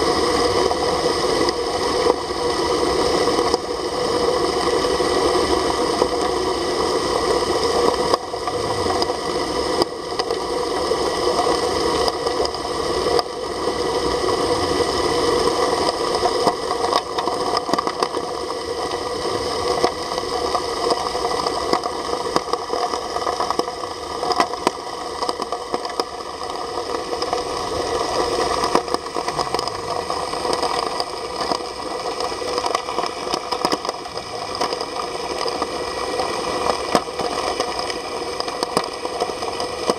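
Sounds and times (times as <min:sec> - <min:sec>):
underwater pump drone: 0:00.0 - 0:39.9
fine crackling of churned slurry: 0:00.1 - 0:39.9.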